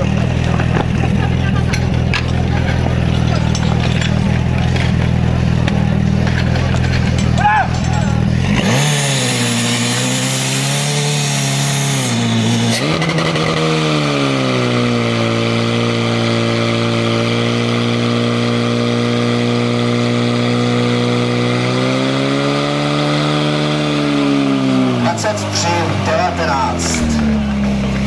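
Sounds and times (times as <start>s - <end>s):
pump engine running at high revs: 0.0s - 28.0s.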